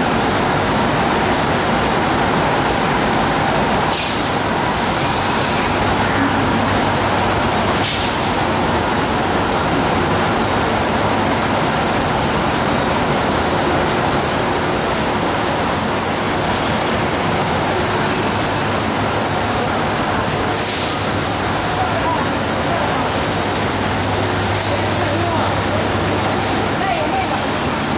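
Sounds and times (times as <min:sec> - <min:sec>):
industrial machinery running: 0:00.0 - 0:27.9.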